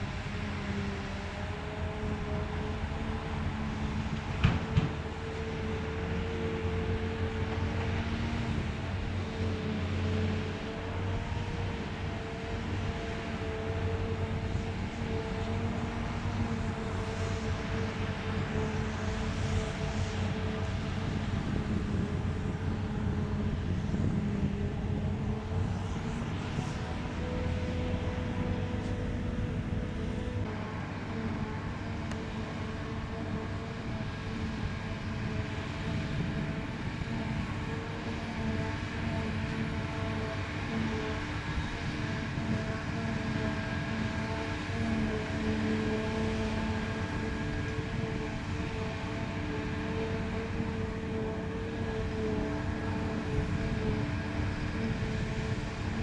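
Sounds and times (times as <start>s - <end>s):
diesel farm machinery engine: 0.0s - 56.0s.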